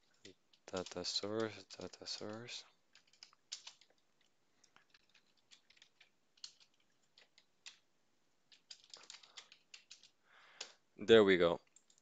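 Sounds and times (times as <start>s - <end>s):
keyboard typing: 0.0s - 7.9s, 8.5s - 10.8s, 11.6s - 12.0s.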